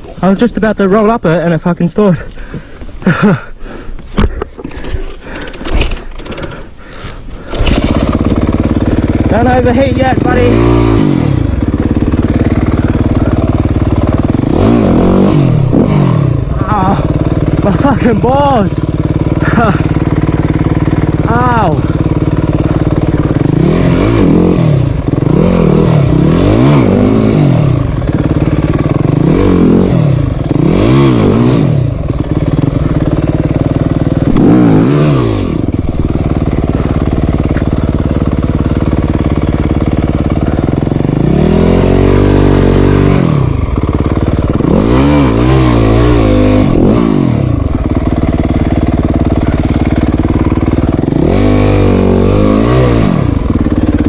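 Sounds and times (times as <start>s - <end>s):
dirt bike engine revving: 4.3s - 54.0s.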